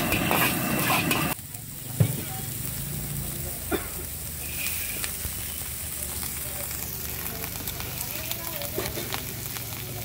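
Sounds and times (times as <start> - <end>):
cabbage sizzling in a wok: 0.0 - 10.0.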